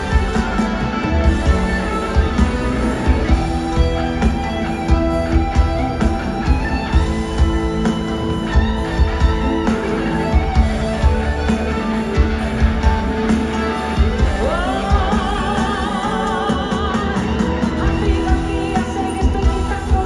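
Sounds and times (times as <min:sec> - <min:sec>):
drums on an even beat: 0:00.0 - 0:20.0
live pop band playing: 0:00.0 - 0:20.0.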